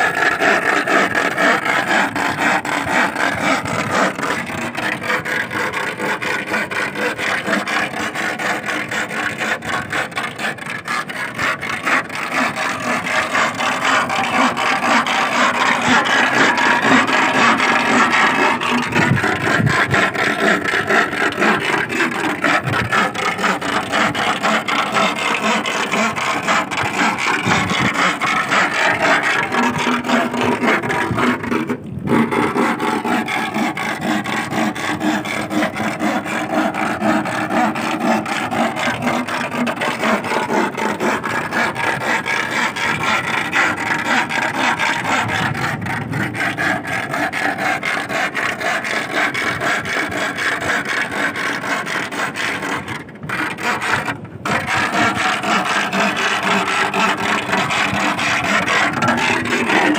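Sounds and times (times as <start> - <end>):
steel rod rasping on wood: 0.0 - 59.9.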